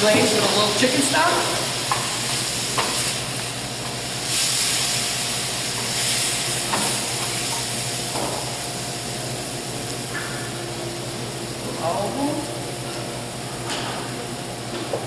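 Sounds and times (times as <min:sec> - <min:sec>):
hot pan sizzling: 0:00.0 - 0:14.8.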